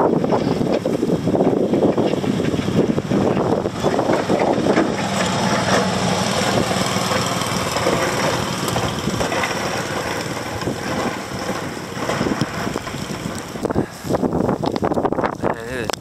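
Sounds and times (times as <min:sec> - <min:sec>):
truck engine running: 0:00.0 - 0:15.4
wind noise: 0:00.0 - 0:16.0.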